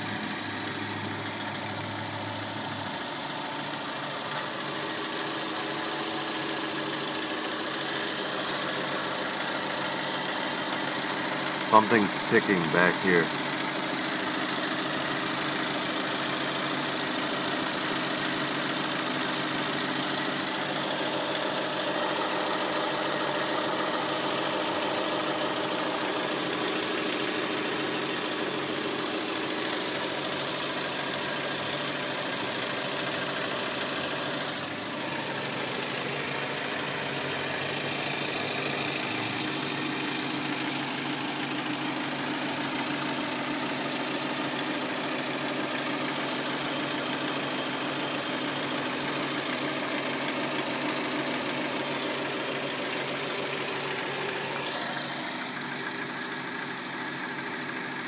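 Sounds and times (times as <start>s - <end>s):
car engine idling: 0.0s - 58.0s
rapid engine ticking: 0.1s - 58.0s.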